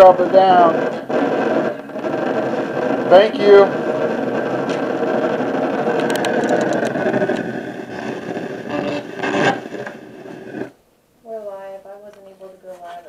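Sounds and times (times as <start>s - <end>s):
snatches of radio station audio: 0.0s - 10.8s
radio static hiss: 0.0s - 13.0s.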